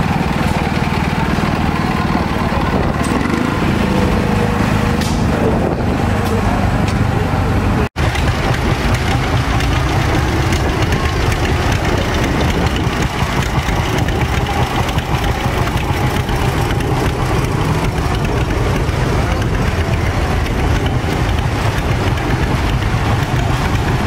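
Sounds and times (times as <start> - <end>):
tractor engines running: 0.0 - 24.0
two-cylinder tractor engine: 0.0 - 24.0.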